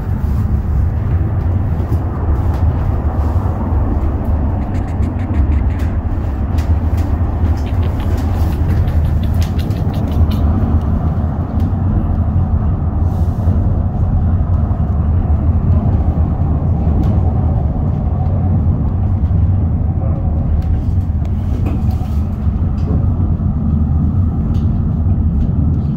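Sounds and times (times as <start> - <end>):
tram car rumbling: 0.0 - 25.9.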